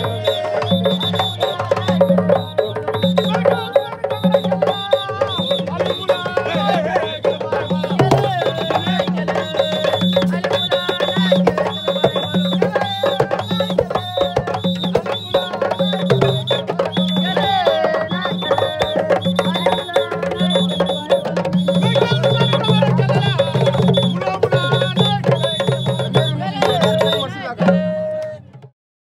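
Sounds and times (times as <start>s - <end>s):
voices singing: 0.0s - 28.6s
hand drums fast rhythm: 0.0s - 28.7s.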